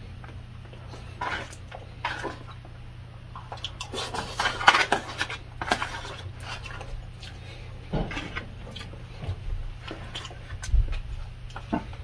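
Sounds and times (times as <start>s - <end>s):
chewing: 0.7s - 12.0s.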